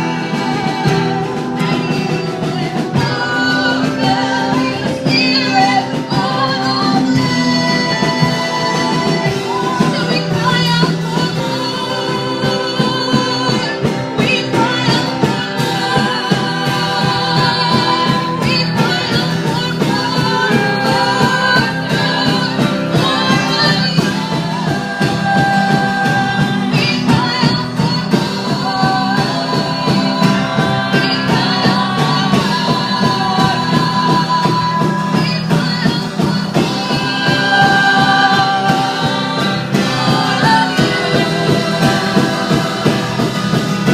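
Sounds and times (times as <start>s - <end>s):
band music with singing voices: 0.0s - 43.9s.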